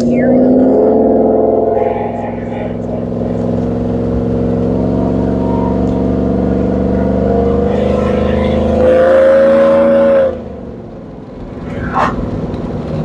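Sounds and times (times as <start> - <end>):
pickup engine accelerating: 0.0 - 13.0.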